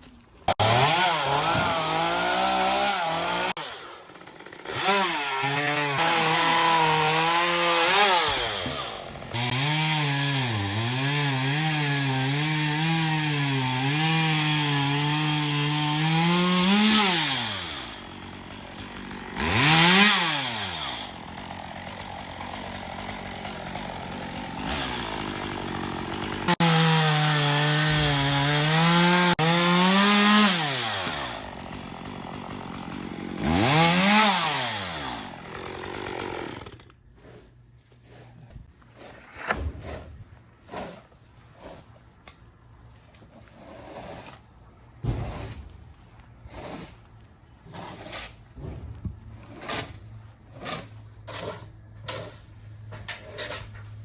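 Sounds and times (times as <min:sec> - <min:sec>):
chainsaw cutting wood: 0:00.5 - 0:37.5, 0:43.1 - 0:54.0.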